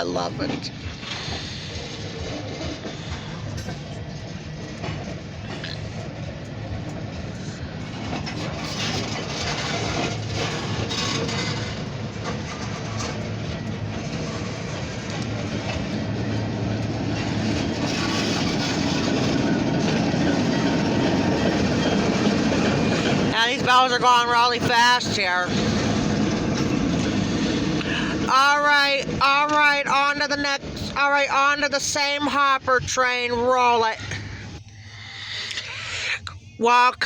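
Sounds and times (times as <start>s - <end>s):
freight train rolling on track: 0.0s - 37.0s.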